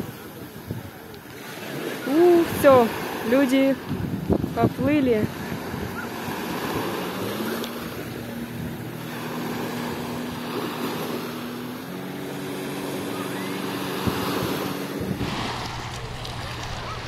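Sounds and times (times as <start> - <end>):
jet ski engine running: 0.0 - 17.0
small waves washing on beach: 0.0 - 17.0
wind on microphone: 0.0 - 17.0.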